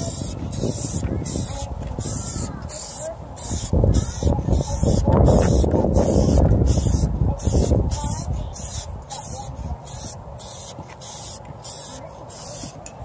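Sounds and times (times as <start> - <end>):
aerosol spray hissing: 0.0 - 12.8.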